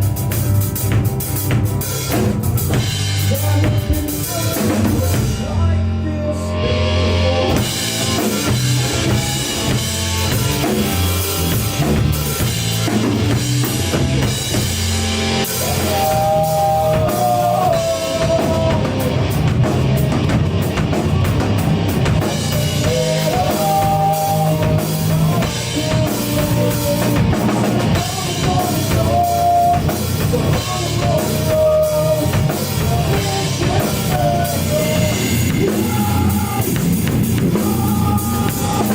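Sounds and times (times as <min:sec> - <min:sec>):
held melodic guitar line: 0:00.0 - 0:38.9
rock band playing: 0:00.0 - 0:38.9.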